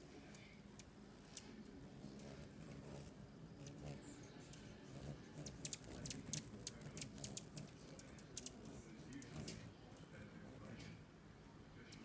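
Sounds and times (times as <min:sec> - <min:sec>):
hummingbirds twittering: 0:00.0 - 0:11.1.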